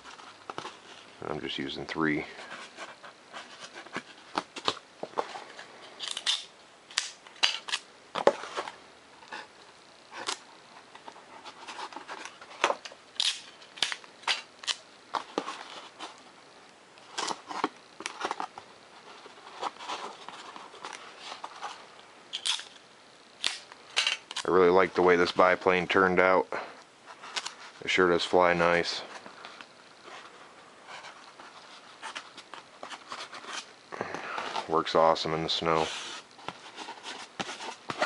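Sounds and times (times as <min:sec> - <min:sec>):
tape clicks and rustles: 0:02.4 - 0:25.2, 0:26.8 - 0:27.8, 0:28.7 - 0:38.0.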